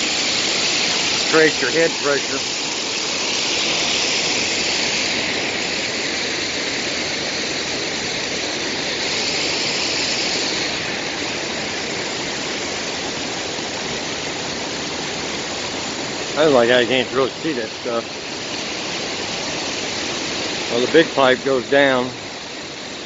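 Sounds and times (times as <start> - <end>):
water pouring off dam: 0.0 - 23.0.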